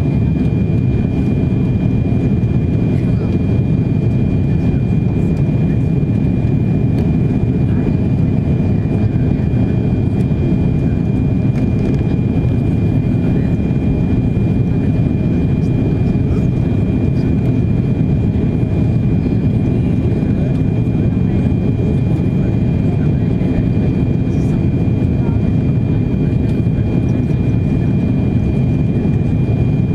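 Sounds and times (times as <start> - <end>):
aircraft cabin rumble: 0.0 - 29.9.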